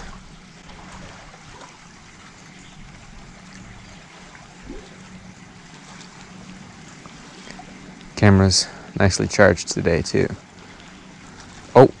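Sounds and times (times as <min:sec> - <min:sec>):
water lapping against wooden dock: 0:00.0 - 0:12.0.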